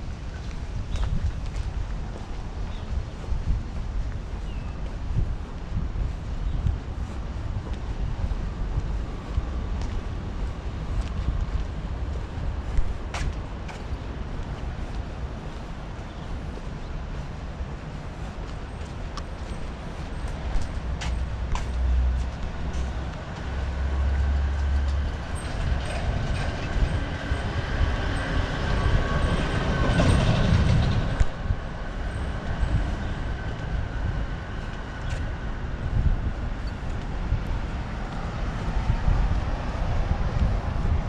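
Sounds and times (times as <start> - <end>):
street traffic rumble: 0.0 - 41.0.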